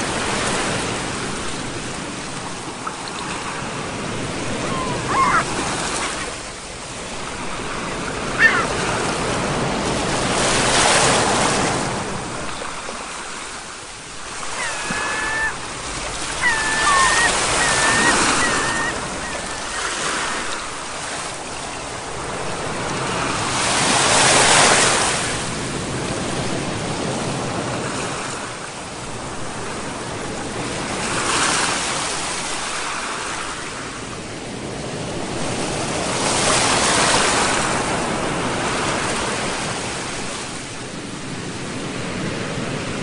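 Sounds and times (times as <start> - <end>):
sea waves breaking: 0.0 - 43.0.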